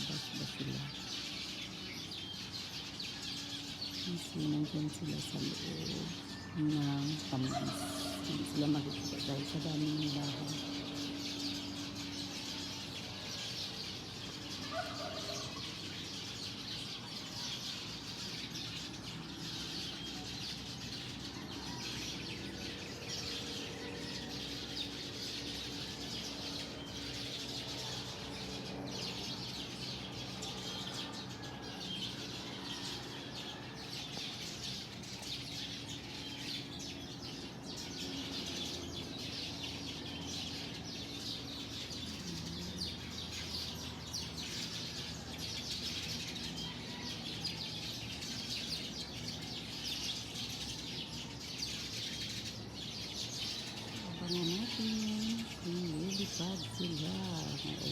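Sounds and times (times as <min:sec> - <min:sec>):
chorus of small birds chirping: 0:00.0 - 0:57.9.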